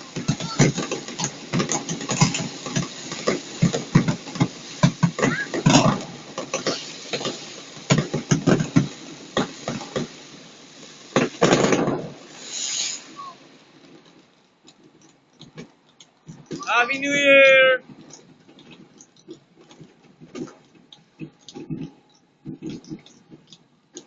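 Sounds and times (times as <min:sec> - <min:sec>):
fireworks bangs and pops: 0:00.0 - 0:24.0
fireworks crackling burst: 0:00.0 - 0:24.0.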